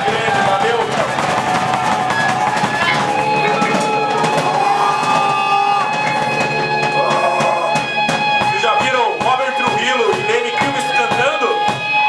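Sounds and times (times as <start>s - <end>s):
drum kit and cymbals: 0.0s - 12.0s
guitar: 0.0s - 12.0s.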